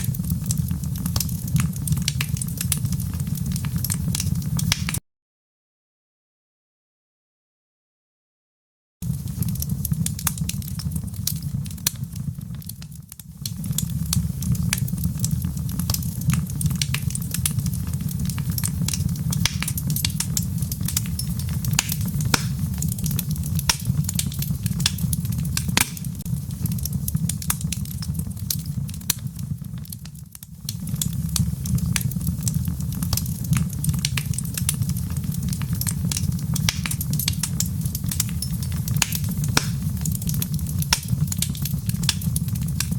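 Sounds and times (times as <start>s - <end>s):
low fire rumble: 0.0s - 5.0s, 9.0s - 42.9s
wood fire crackling and popping: 0.0s - 5.0s, 9.0s - 42.9s.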